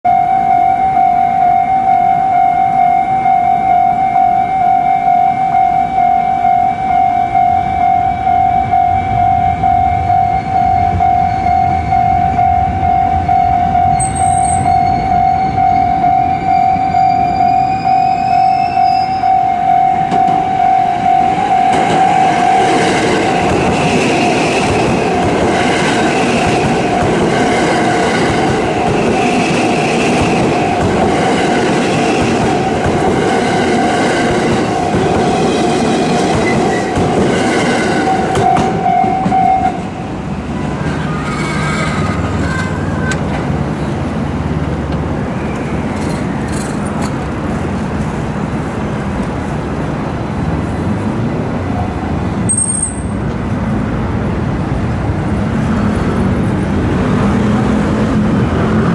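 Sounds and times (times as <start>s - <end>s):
electric train passing: 0.1s - 58.9s
train whine: 0.1s - 58.9s.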